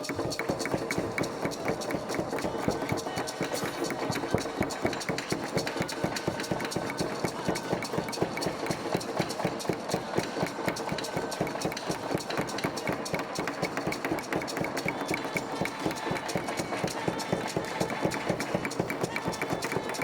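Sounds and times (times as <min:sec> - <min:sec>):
fast wooden percussion knocking: 0:00.0 - 0:20.0.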